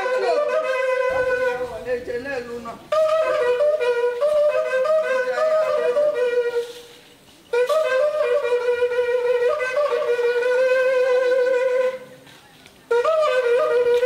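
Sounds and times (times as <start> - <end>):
wind instrument playing: 0.0 - 14.0.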